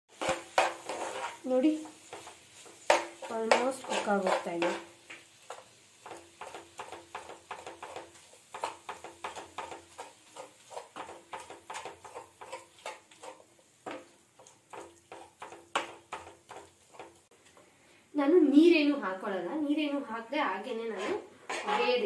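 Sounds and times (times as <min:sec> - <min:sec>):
spatula scraping in a pan: 0:00.1 - 0:17.8, 0:20.6 - 0:22.0.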